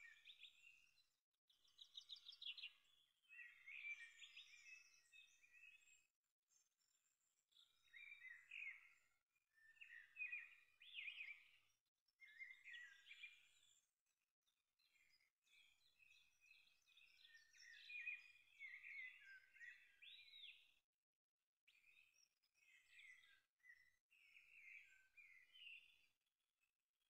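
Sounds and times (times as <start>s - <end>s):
faint songbirds chirping: 0.0s - 20.9s, 21.7s - 27.0s.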